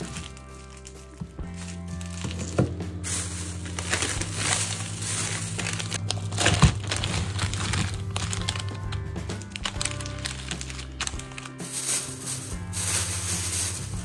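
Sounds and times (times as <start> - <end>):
background music: 0.0 - 14.0
plastic packaging crinkling: 0.0 - 14.0.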